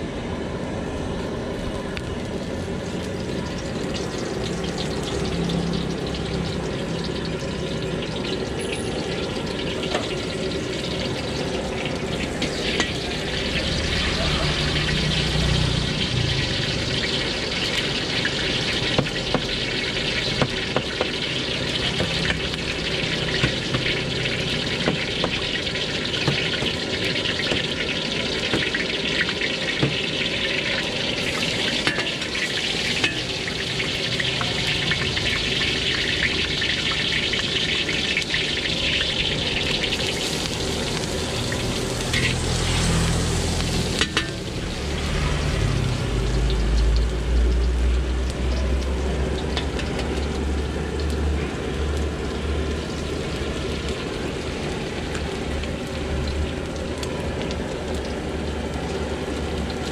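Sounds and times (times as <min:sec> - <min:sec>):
oil sizzling in a wok: 0:00.0 - 0:59.9
oil popping: 0:02.0 - 0:59.9.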